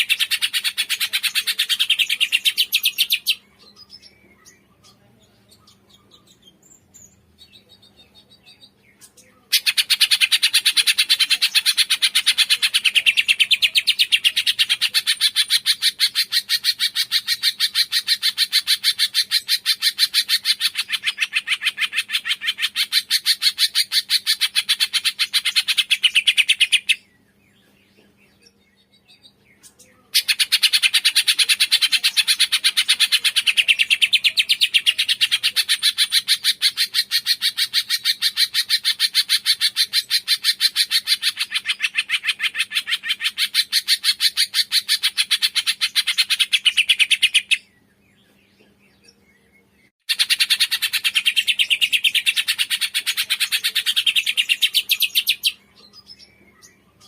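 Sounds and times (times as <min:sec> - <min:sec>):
songbird rapid chirping: 0:00.0 - 0:57.0.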